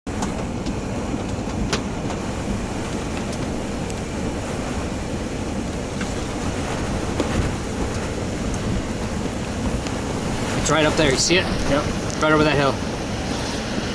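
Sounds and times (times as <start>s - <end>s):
strong wind rushing and rumbling: 0.1s - 13.9s.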